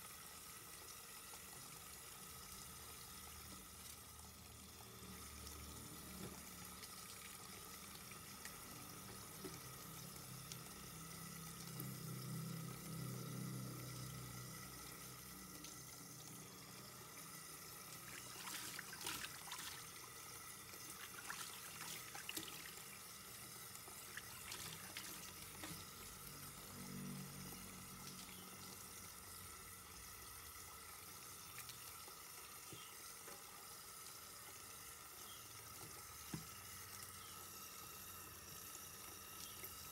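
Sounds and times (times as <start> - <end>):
tap water pouring into metal bowl: 0.4 - 39.9.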